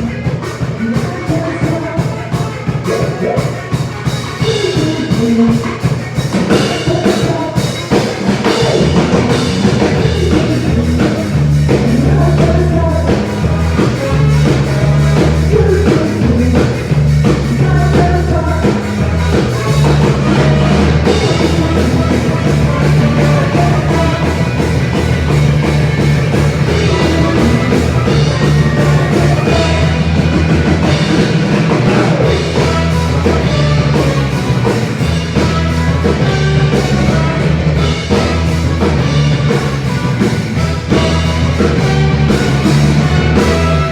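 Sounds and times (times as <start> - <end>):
bass line: 0.0 - 43.9
drum kit beat: 0.0 - 43.9
live rock band playing: 0.0 - 43.9.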